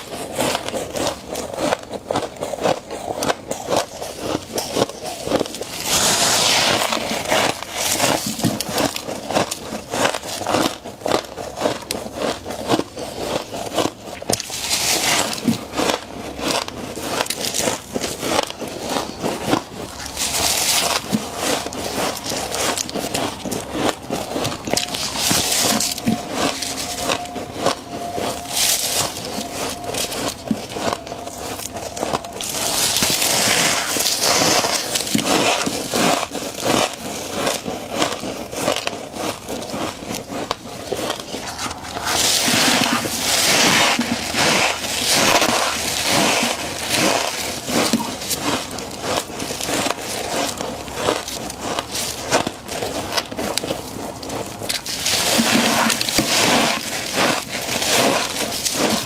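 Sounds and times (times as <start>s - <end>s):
crunching and chewing of frost: 0.0s - 59.0s.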